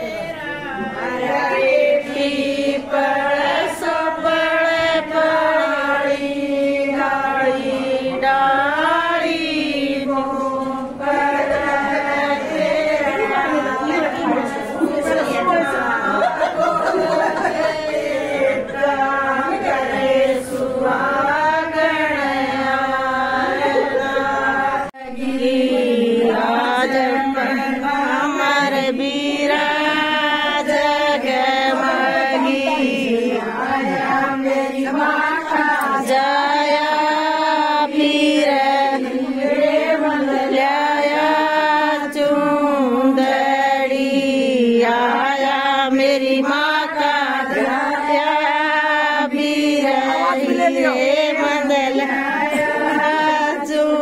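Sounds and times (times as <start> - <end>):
women singing together: 0.0 - 54.0.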